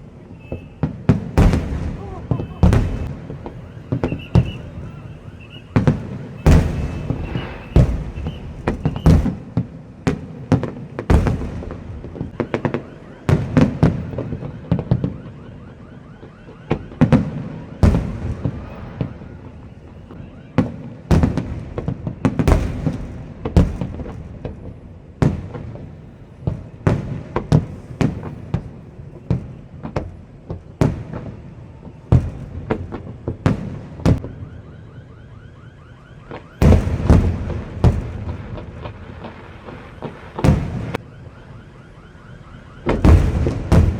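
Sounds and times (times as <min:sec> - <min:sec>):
fireworks bursting: 0:00.1 - 0:15.2, 0:16.7 - 0:34.4, 0:36.2 - 0:41.1, 0:42.7 - 0:43.9.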